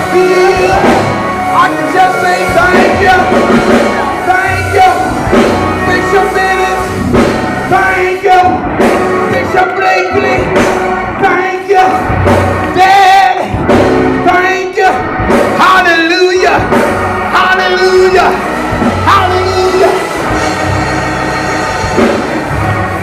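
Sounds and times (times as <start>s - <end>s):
church music with singing: 0.0s - 23.0s.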